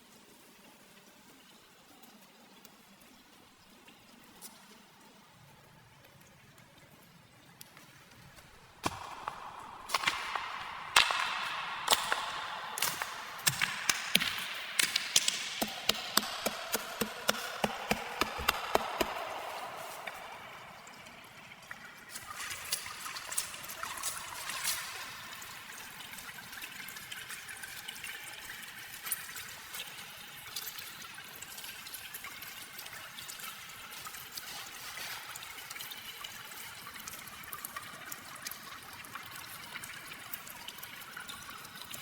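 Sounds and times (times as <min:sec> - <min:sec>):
water pouring and trickling: 0:00.4 - 0:42.0.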